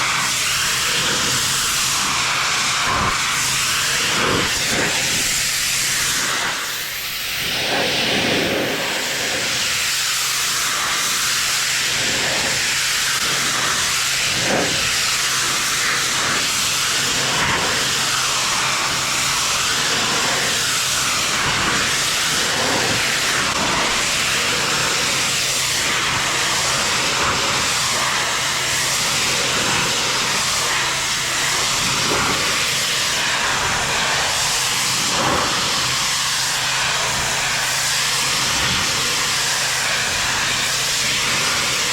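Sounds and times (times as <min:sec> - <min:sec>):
pressure washer water jet hissing: 0:00.0 - 0:41.9.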